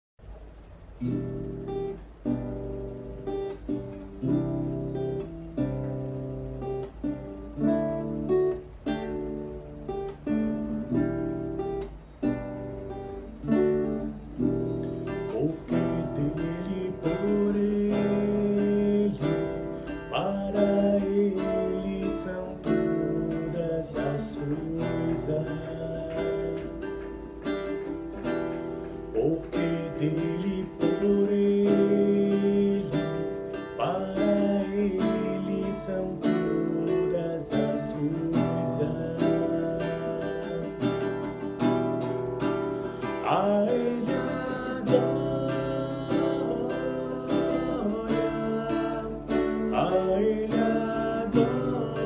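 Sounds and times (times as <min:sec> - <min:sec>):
acoustic guitar strumming: 0:00.2 - 0:52.0.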